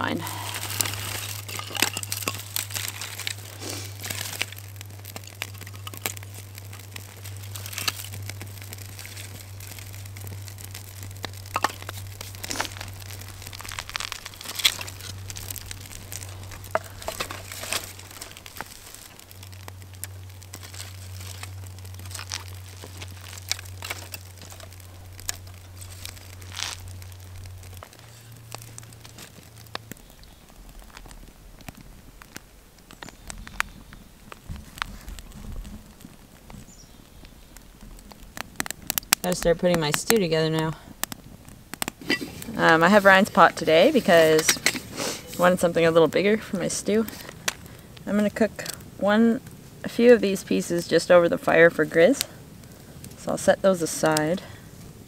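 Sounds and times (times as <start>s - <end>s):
steady low hum: 0.0s - 50.0s
twigs rustling and snapping: 0.0s - 55.0s
wood fire cracking: 0.0s - 55.0s.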